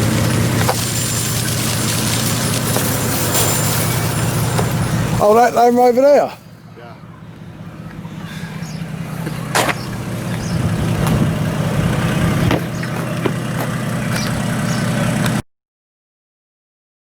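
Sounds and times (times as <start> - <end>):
vehicle engine and road hum: 0.0 - 15.4.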